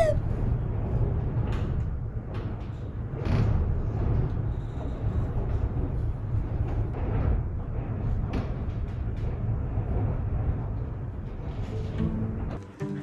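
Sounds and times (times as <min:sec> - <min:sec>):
strong wind buffeting a window: 0:00.0 - 0:12.6.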